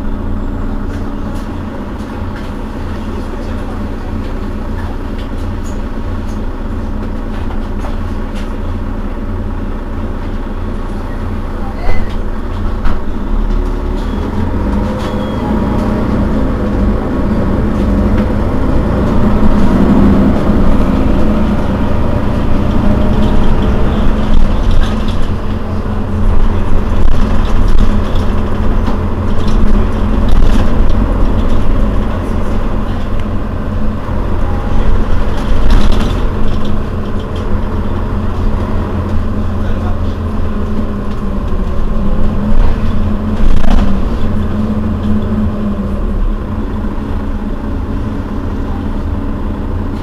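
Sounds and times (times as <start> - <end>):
bus engine idling: 0.0 - 50.0.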